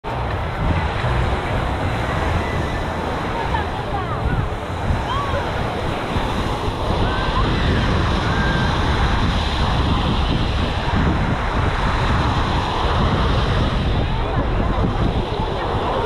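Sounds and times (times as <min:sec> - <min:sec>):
faint voices: 0:00.0 - 0:16.0
wind buffeting microphone: 0:00.0 - 0:16.0
surf breaking on beach: 0:00.1 - 0:16.0.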